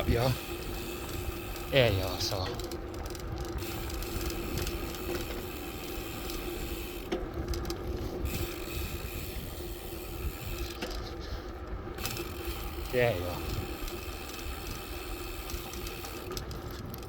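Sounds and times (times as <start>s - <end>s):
bicycle rolling rumble: 0.0s - 17.0s
light mechanical rattling: 0.0s - 17.0s
sharp bicycle click: 0.0s - 17.0s.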